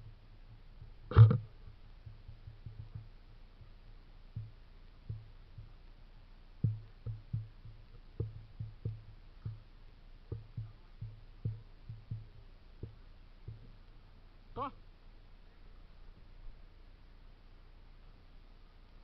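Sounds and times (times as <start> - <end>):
soft low thuds: 0.0 - 19.0.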